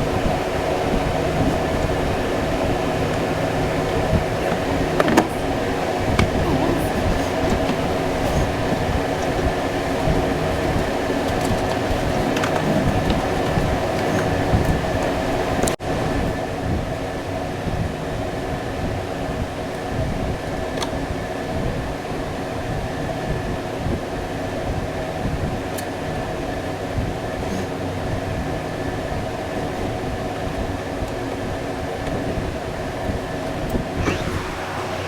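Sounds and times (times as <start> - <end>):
machine whirring hum: 0.0 - 35.0.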